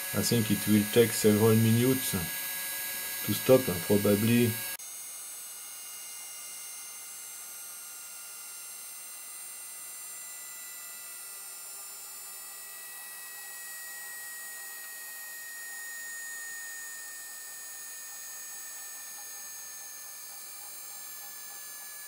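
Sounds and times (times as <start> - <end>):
gyroscope rotor whine: 0.0 - 22.0.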